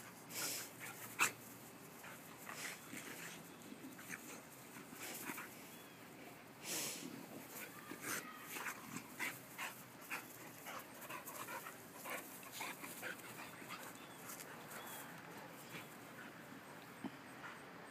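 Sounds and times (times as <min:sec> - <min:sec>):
dogs panting: 0:00.0 - 0:06.0, 0:07.4 - 0:17.9.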